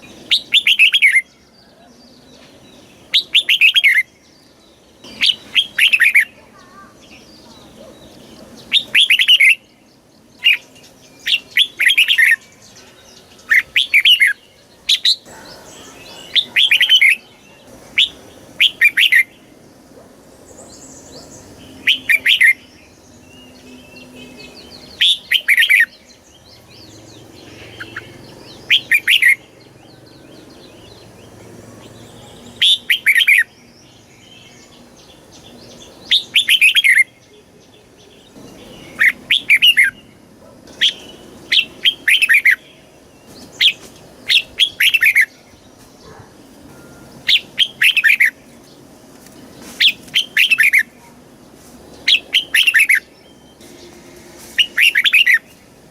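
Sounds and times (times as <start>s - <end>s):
bird warbling song: 0.0s - 55.9s
faint bird chirping: 0.0s - 55.9s.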